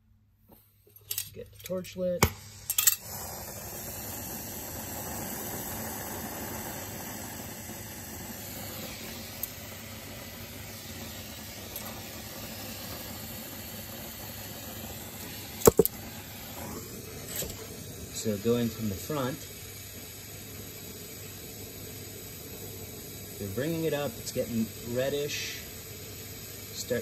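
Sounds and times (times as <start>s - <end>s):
torch flame hissing: 2.2s - 27.0s.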